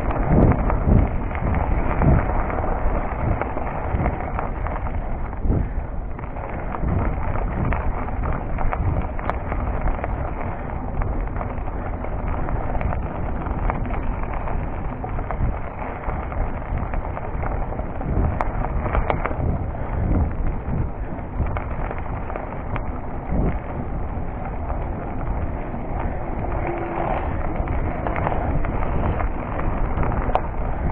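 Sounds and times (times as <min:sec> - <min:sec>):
tyre rumble on gravel: 0:00.0 - 0:30.9
wind on microphone: 0:00.0 - 0:30.9.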